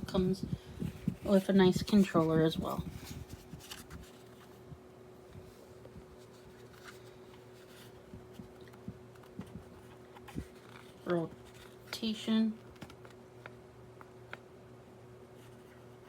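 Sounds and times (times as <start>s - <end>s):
fan running low hum: 0.0s - 16.0s.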